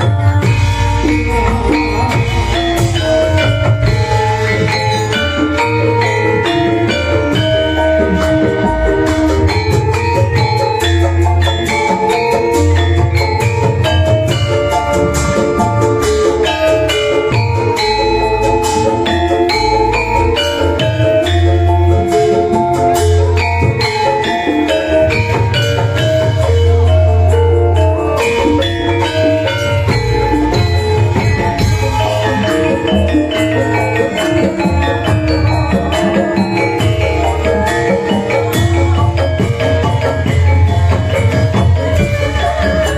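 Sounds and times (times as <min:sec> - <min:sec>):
heavy low beats: 0:00.0 - 0:42.9
metallophones struck with mallets: 0:00.0 - 0:42.9.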